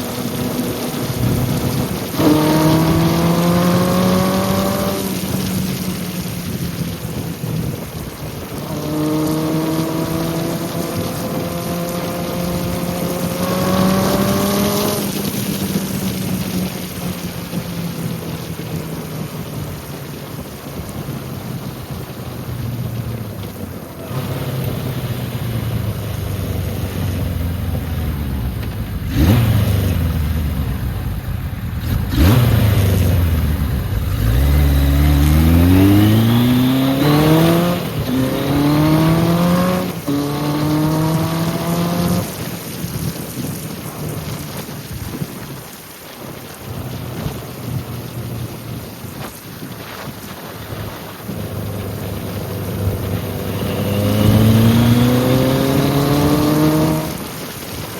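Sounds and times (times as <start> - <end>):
motorcycle engine accelerating: 0.0 - 44.8, 49.8 - 57.9.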